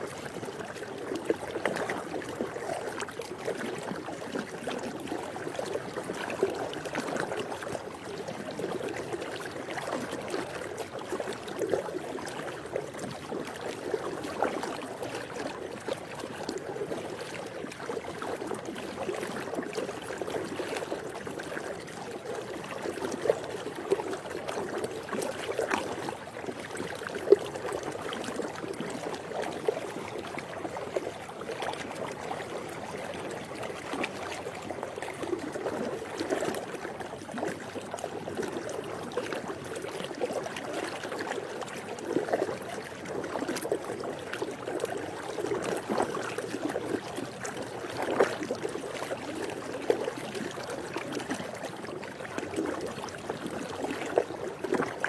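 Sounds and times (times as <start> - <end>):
pool water washing: 0.0 - 55.0
small splashes and drips: 0.1 - 55.0.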